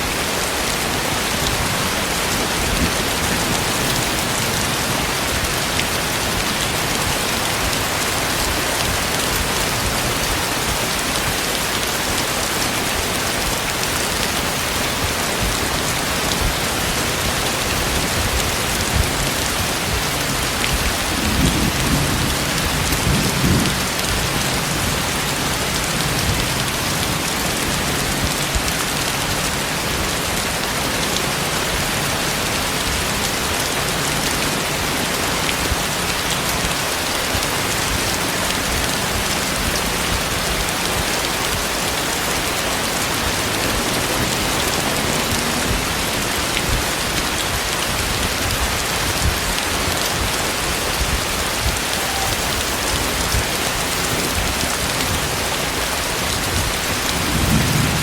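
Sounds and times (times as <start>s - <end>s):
heavy rain on hard surfaces: 0.0s - 58.0s.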